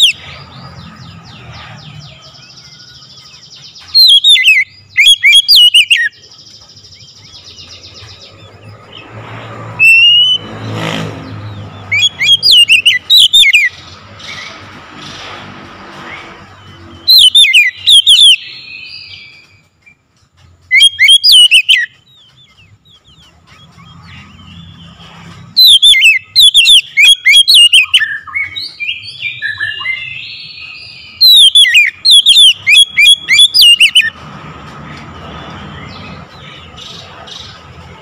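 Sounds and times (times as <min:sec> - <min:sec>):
bird singing whistled notes: 0:00.0 - 0:09.1, 0:09.7 - 0:14.6, 0:16.0 - 0:20.0, 0:20.6 - 0:34.2.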